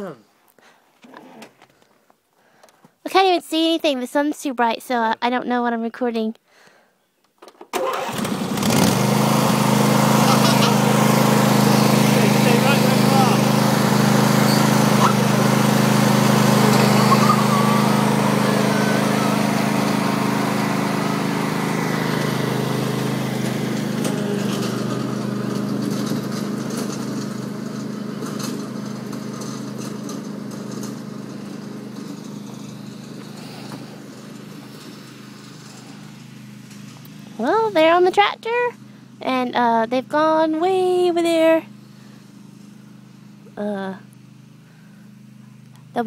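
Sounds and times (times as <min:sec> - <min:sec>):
small tractor engine running: 0:07.7 - 0:46.0.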